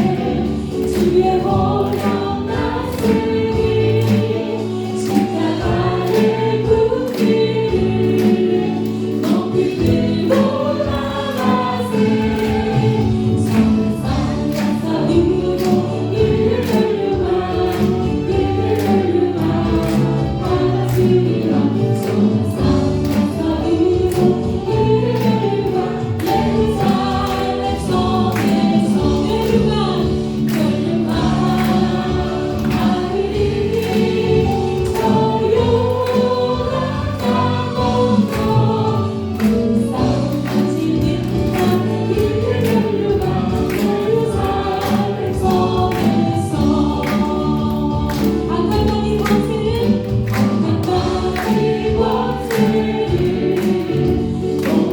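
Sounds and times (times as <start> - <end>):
group singing worship song: 0.0 - 54.9.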